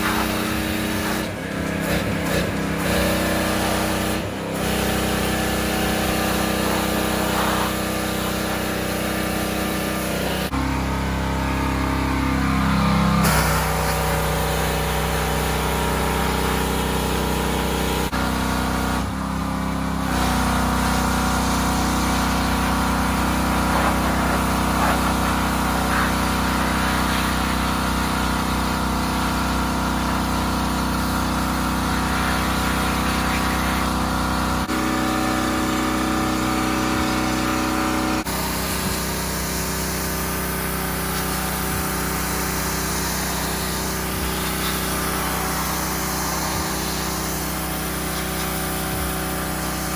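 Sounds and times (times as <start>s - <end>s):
water jet hissing: 0.0s - 10.5s, 20.1s - 49.9s
pressure washer running: 0.0s - 49.9s.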